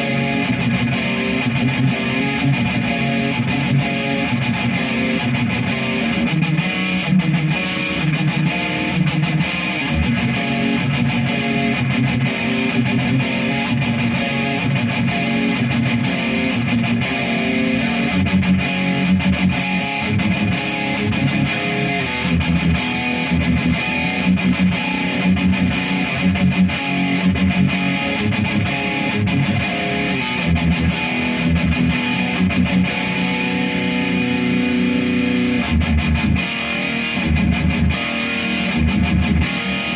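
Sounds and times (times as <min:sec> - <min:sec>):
distorted electric guitar riffing: 0:00.0 - 0:39.9.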